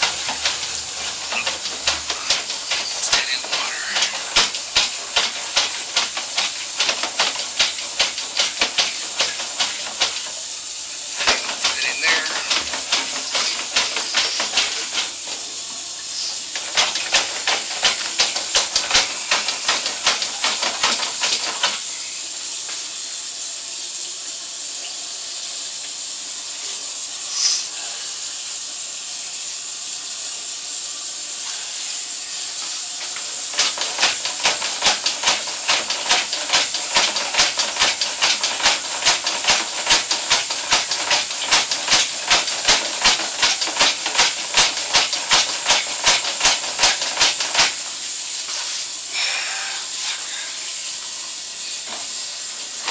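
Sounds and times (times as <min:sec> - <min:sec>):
steady hiss: 0:00.0 - 0:42.4.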